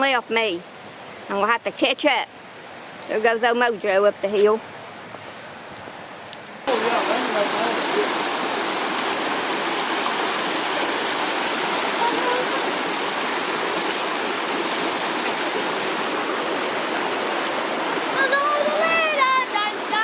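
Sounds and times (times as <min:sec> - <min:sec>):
creek and waterfall rushing: 0:00.0 - 0:20.0.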